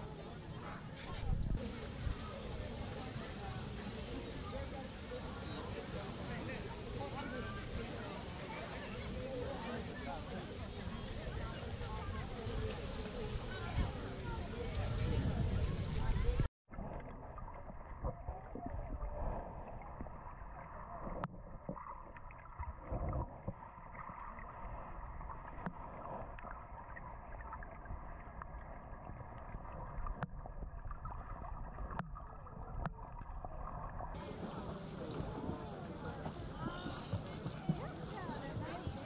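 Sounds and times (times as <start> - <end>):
muffled underwater water wash: 1.3 - 39.0.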